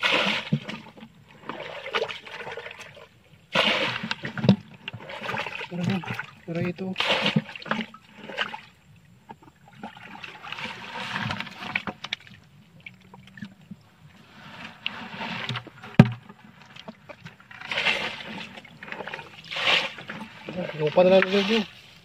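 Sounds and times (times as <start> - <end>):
muddy water splashing: 0.0 - 22.0.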